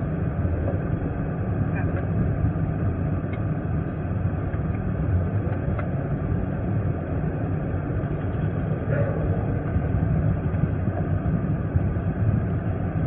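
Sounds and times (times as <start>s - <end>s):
car engine rumble: 0.0s - 13.0s
road noise inside car: 0.0s - 13.0s.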